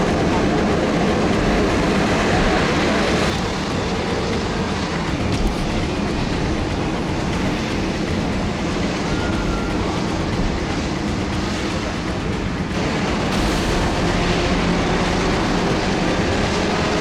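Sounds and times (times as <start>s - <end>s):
helicopter rotors and engines: 0.0s - 17.0s.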